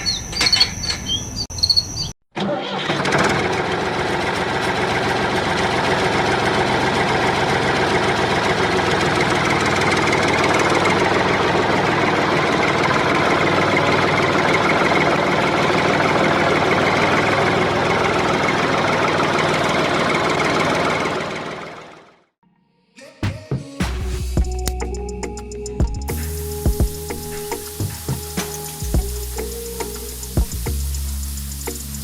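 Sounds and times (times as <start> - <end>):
tractor engine idling: 2.8 - 22.2, 24.4 - 32.0.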